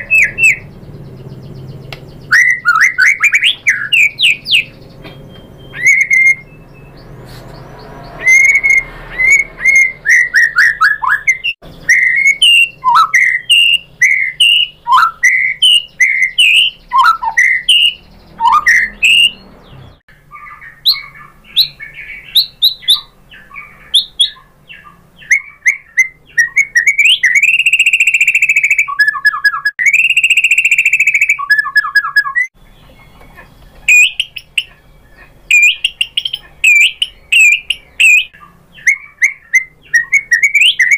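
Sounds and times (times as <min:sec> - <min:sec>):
bird singing whistled notes: 0:00.0 - 0:33.2, 0:33.8 - 0:40.9.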